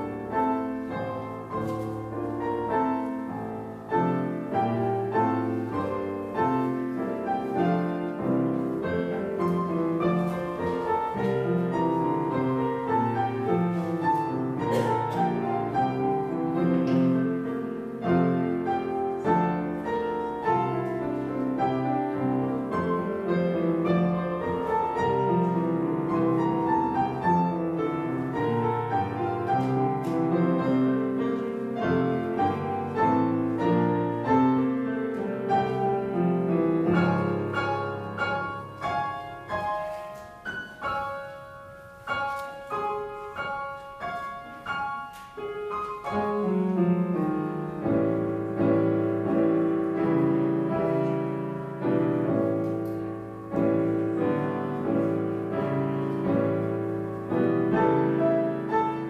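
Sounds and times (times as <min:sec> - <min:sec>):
slow classical piano piece: 0:00.0 - 0:59.0.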